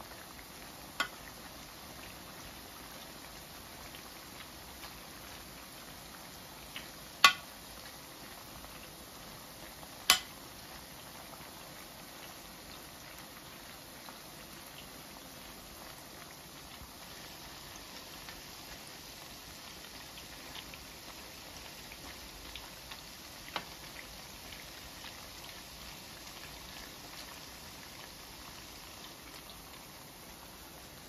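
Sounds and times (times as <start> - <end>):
oil bubbling sizzle: 0.0 - 31.0.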